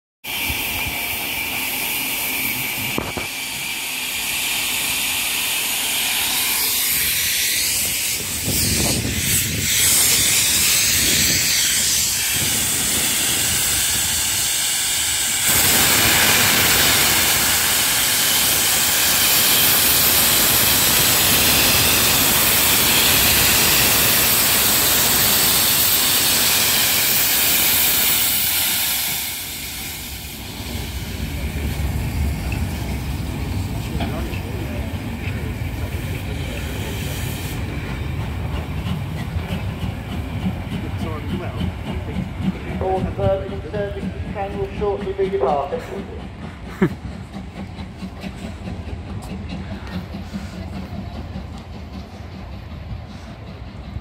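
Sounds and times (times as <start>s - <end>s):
steam locomotive venting steam: 0.2s - 54.0s.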